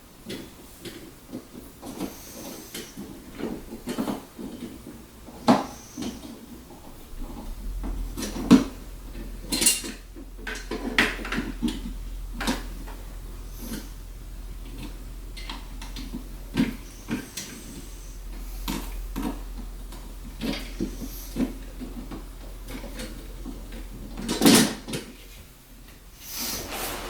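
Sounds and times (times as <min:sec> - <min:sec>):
low steady hum: 0:01.8 - 0:27.0.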